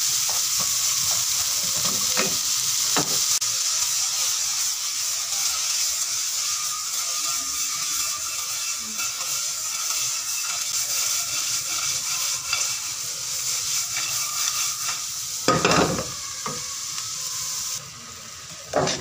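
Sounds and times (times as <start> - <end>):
vegetables sizzling in butter: 0.0 - 19.0
wooden spatula stirring in wok: 0.1 - 17.8.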